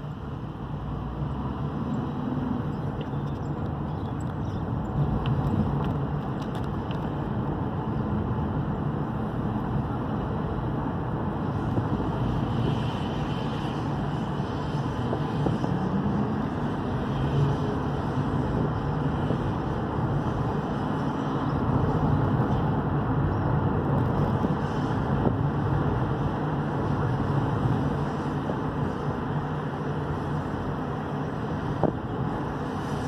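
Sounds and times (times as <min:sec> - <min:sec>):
tyre and road noise: 0:00.0 - 0:33.0.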